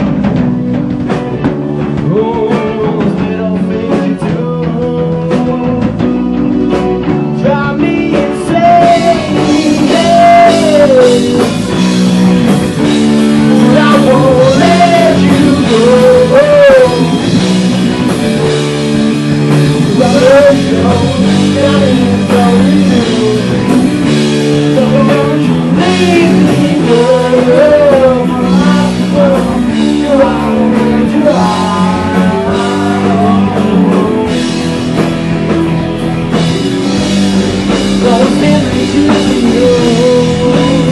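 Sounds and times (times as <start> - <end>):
bass guitar: 0.0 - 40.9
drum kit beat: 0.0 - 40.9
electric guitars: 0.0 - 40.9
man singing: 1.8 - 17.5, 19.2 - 35.0, 36.3 - 40.9.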